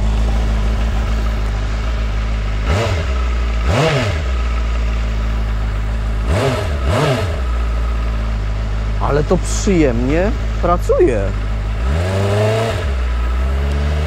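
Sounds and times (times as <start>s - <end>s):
engine idling and revving: 0.0s - 14.0s.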